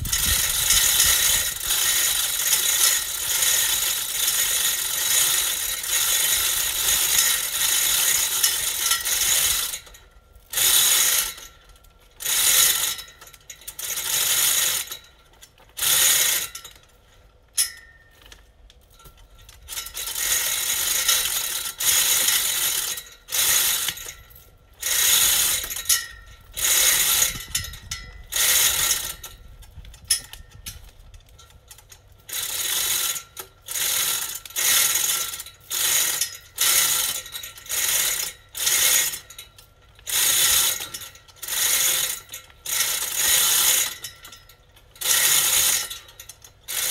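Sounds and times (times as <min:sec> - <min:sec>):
chain hoist ratcheting and rattling: 0:00.0 - 0:46.9.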